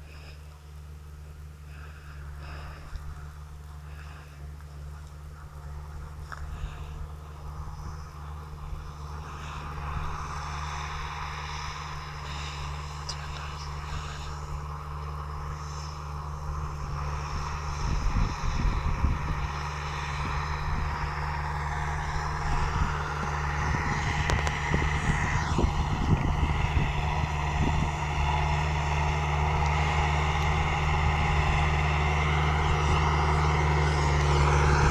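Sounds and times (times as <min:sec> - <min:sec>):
tractor diesel engine droning: 0:00.0 - 0:34.9.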